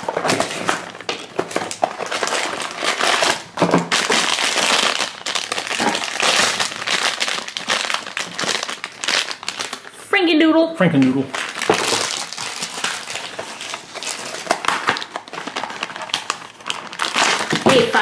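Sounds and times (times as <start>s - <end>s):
foil pouch crinkling: 0.0s - 9.9s, 11.0s - 18.0s.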